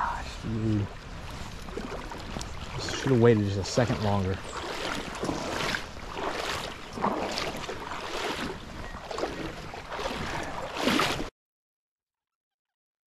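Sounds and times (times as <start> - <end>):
water sloshing: 0.6 - 11.3.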